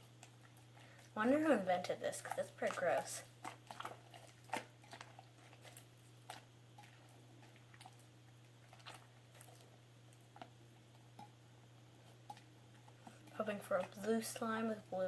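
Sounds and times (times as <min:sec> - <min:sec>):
low steady hum: 0:00.0 - 0:15.0
slime squelching by hand: 0:00.0 - 0:15.0.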